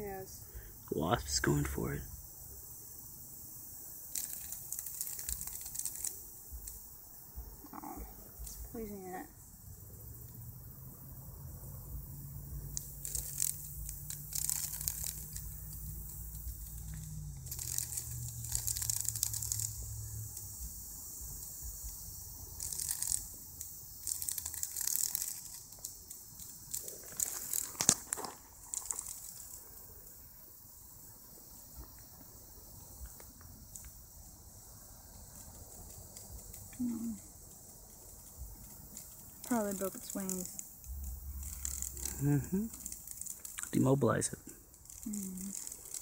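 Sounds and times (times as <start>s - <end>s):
cicada raspy buzzing: 0.0s - 46.0s
steady high hiss: 0.0s - 46.0s.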